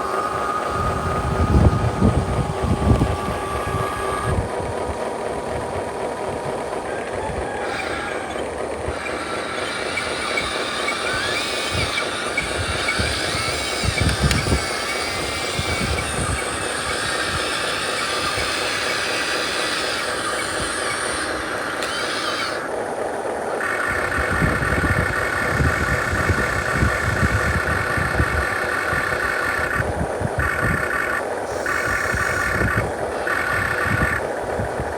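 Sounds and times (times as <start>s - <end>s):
drivetrain and wheels rumble: 0.0s - 34.9s
toy truck mechanical whine: 0.0s - 34.9s.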